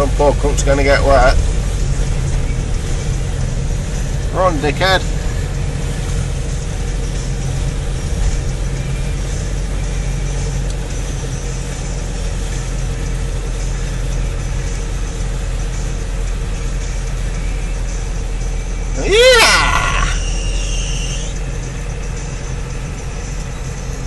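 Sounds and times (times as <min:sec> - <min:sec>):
rushing floodwater: 0:00.0 - 0:22.1
vehicle engine running: 0:00.0 - 0:24.0.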